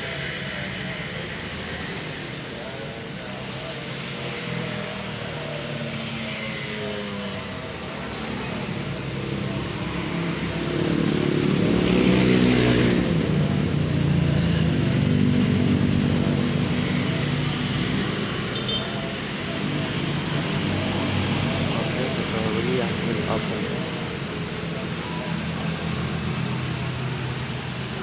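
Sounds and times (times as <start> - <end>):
vehicle engines humming: 0.0 - 28.0.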